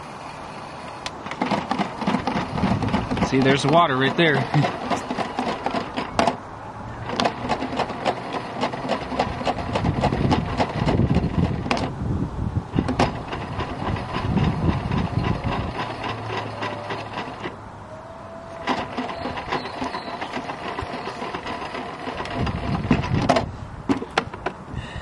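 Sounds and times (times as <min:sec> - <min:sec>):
toy washing machine motor whirring: 0:00.0 - 0:06.4, 0:07.0 - 0:11.9, 0:12.8 - 0:17.6, 0:18.5 - 0:23.5.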